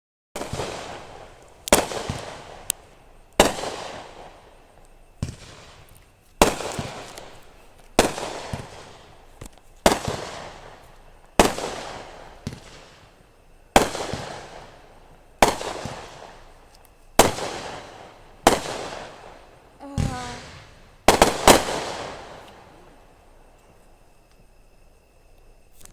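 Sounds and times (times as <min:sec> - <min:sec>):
firework shells bursting: 0:00.4 - 0:24.4.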